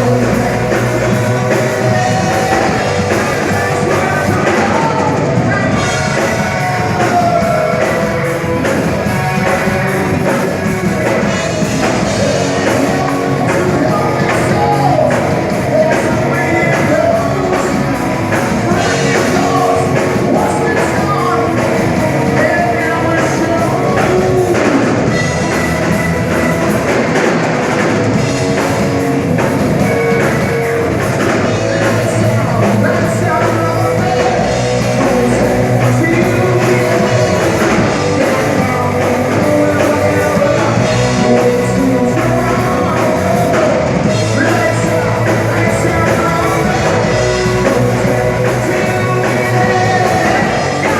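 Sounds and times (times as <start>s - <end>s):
person singing: 0.0s - 27.4s, 28.1s - 50.9s
rock band playing: 0.0s - 50.9s.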